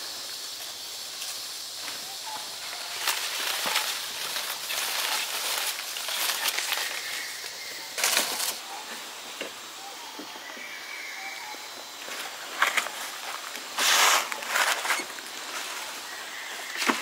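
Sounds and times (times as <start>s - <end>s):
dry leaves rustling and crackling: 0.0s - 8.8s, 12.0s - 17.0s
monkeys scuffling: 0.2s - 8.8s, 12.0s - 17.0s.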